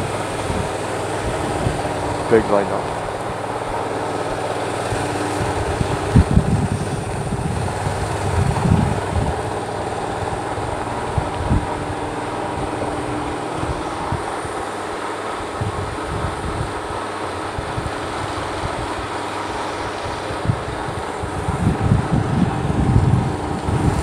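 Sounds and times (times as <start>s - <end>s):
diesel engine idling: 0.0s - 24.0s
wind buffeting microphone: 0.0s - 24.0s.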